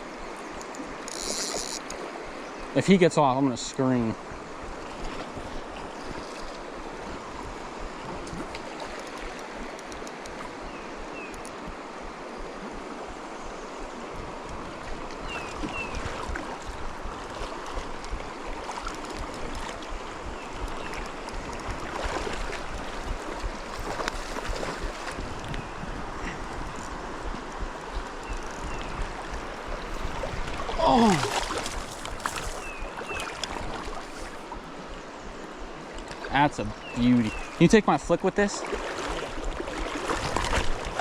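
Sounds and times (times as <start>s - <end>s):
stream water rushing: 0.0s - 41.0s.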